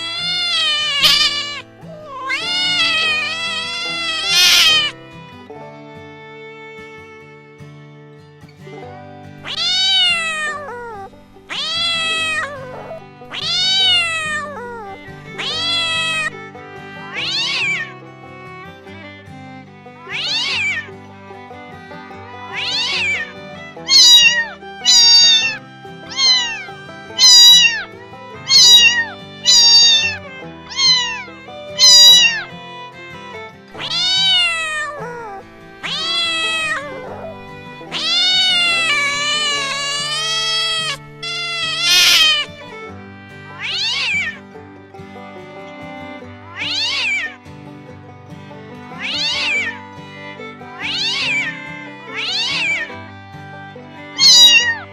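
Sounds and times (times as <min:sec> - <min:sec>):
cat meowing: 0:00.0 - 0:05.5, 0:09.4 - 0:44.5, 0:45.6 - 0:47.4, 0:48.8 - 0:54.9
background music: 0:00.0 - 0:54.8.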